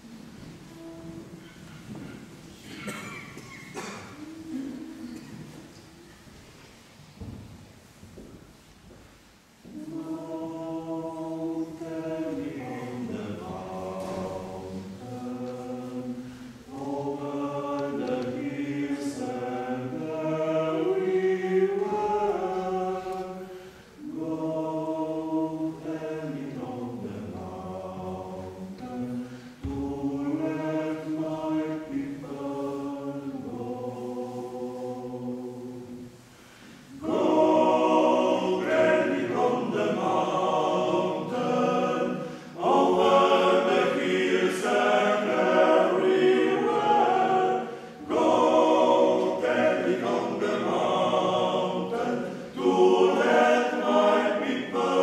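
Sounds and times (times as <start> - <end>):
male choir singing a cappella: 9.6 - 55.0.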